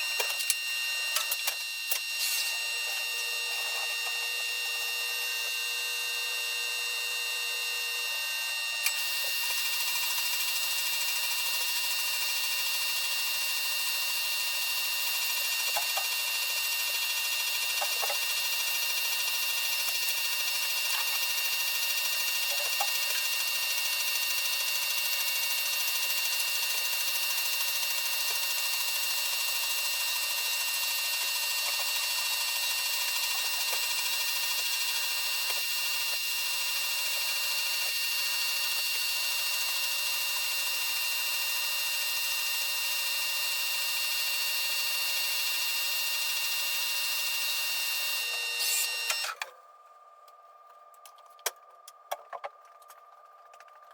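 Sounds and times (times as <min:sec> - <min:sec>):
machine high-pitched whine: 0:00.0 - 0:49.5.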